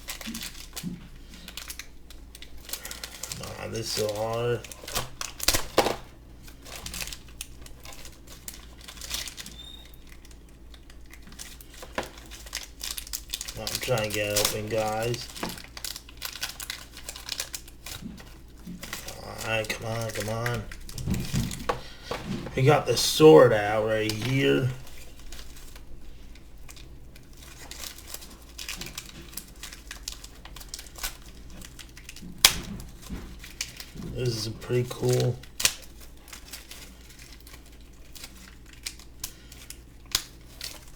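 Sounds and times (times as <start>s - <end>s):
plastic packaging crinkling and clicking: 0.0s - 40.9s.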